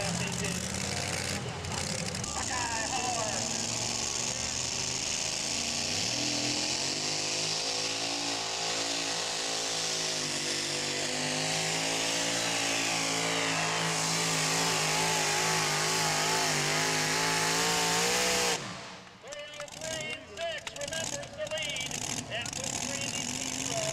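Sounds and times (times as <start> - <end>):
truck engine at full throttle: 0.0 - 23.9.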